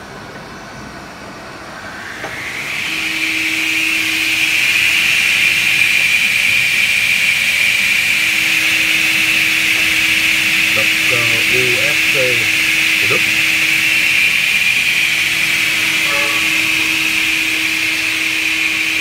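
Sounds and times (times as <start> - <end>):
saw motor whine: 1.4 - 19.0.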